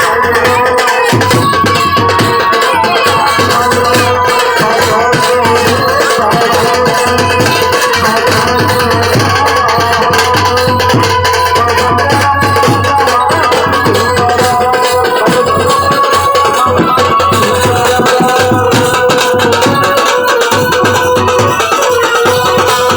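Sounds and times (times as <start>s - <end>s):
loud music with dense percussion: 0.0s - 22.9s.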